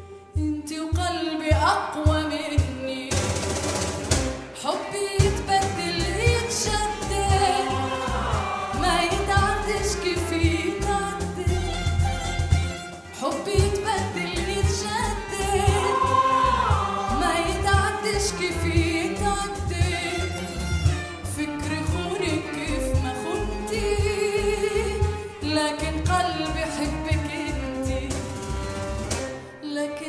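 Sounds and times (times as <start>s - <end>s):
live instrumental accompaniment: 0.0s - 29.7s
woman singing into a microphone: 0.4s - 3.1s, 4.6s - 11.9s, 13.2s - 20.4s, 21.3s - 28.2s, 29.6s - 30.0s.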